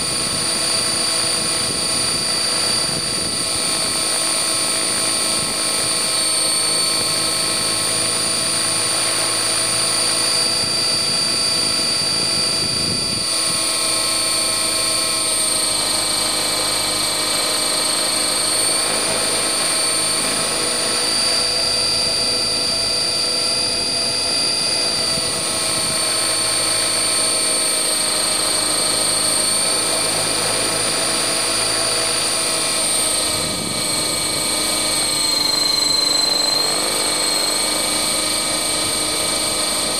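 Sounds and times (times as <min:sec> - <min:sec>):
electric motor high whine: 0:00.0 - 0:39.9
helicopter rotor noise: 0:00.0 - 0:39.9.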